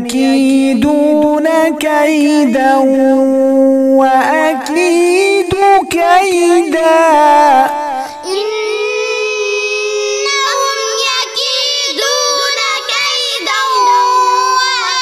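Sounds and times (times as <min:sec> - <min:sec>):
child chanting recitation: 0:00.0 - 0:15.0.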